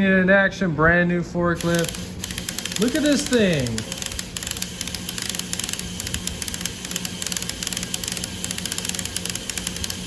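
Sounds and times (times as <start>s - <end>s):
electric motor hum: 1.6s - 10.0s
gear clicking rapidly: 1.6s - 10.0s.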